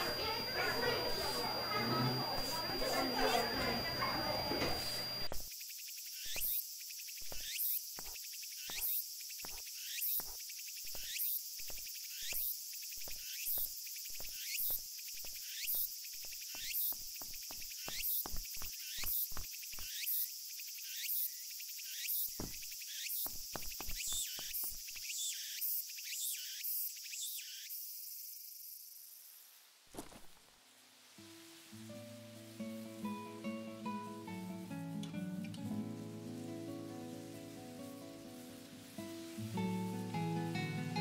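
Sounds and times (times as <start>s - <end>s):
cicadas singing: 0.0s - 30.2s, 31.2s - 41.0s.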